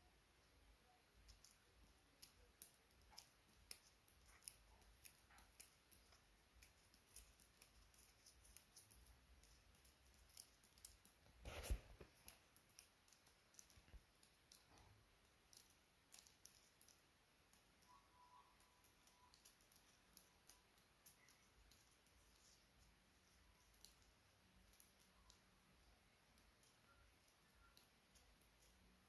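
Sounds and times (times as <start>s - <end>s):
small irregular clicks: 0.4s - 29.0s.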